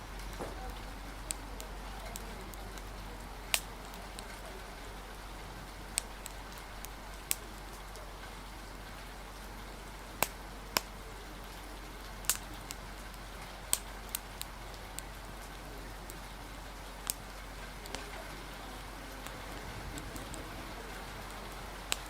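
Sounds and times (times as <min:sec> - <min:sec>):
rain hissing: 0:00.0 - 0:22.0
wind: 0:00.0 - 0:22.0
wood fire crackling: 0:00.0 - 0:22.0.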